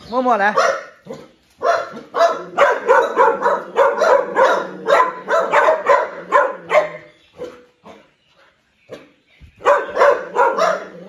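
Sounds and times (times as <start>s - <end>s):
dog barking rapidly: 0.5s - 8.0s, 9.6s - 11.0s.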